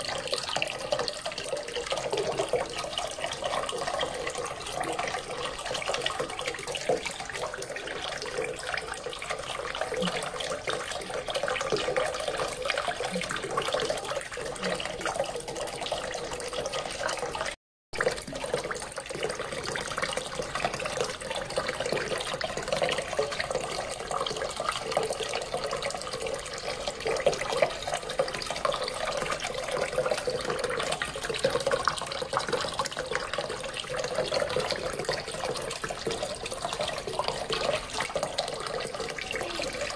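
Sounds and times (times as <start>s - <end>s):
fountain water splashing into basin: 0.0s - 39.9s.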